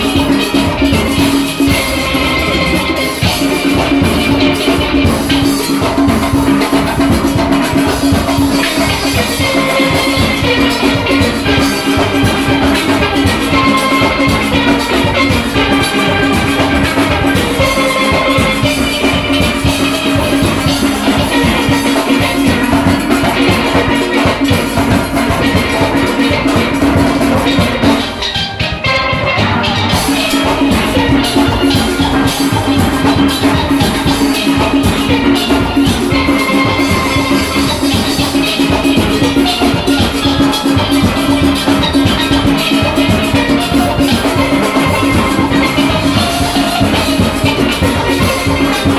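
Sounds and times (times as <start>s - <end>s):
steady drum rhythm: 0.0s - 48.9s
steel pans playing tune: 0.0s - 48.9s.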